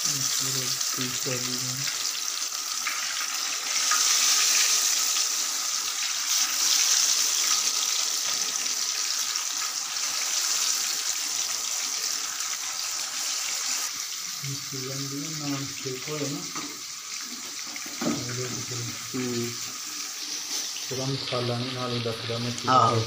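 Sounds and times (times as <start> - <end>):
fish deep-frying sizzle: 0.0 - 23.0.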